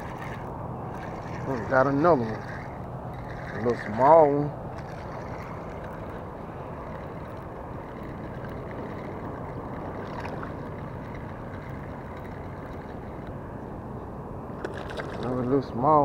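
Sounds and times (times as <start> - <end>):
outdoor hiss and rumble: 0.0 - 16.0.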